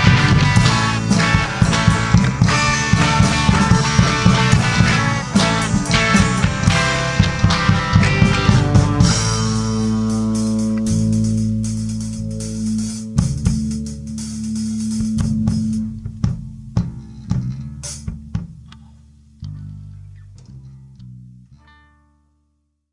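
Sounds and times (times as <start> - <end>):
drum hits: 0.0 - 18.7
rock band chord ringing out: 0.0 - 18.7
low bass note: 0.0 - 21.7.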